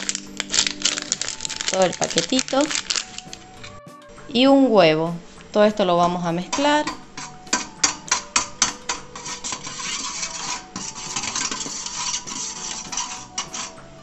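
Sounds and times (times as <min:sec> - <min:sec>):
whisk scraping metal bowl: 0:00.0 - 0:03.6, 0:05.8 - 0:14.0.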